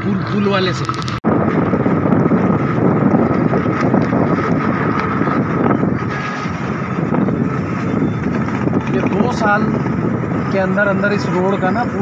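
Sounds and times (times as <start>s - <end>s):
road and engine noise: 0.0s - 12.0s
wind noise on microphone: 0.0s - 12.0s.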